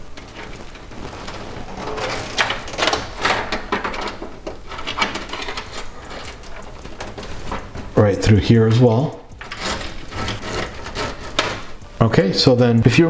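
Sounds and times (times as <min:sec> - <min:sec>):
cables scraping against metal case: 0:00.0 - 0:11.8.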